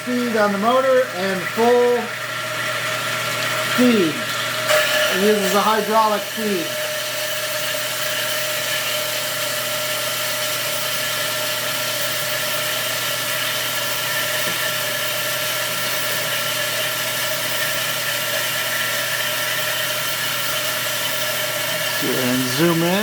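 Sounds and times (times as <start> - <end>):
band saw cutting steel: 0.0 - 23.0.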